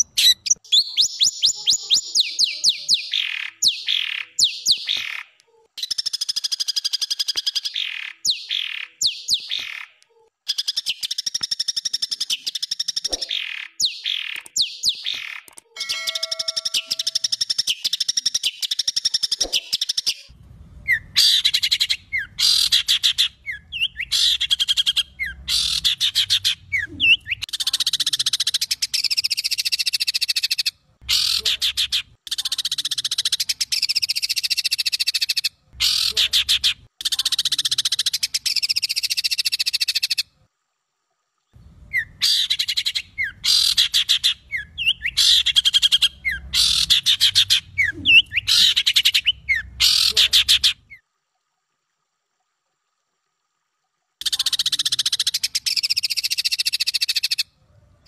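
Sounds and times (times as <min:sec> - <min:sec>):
songbird rasping chatter and trills: 0:00.0 - 0:39.3, 0:41.6 - 0:51.0.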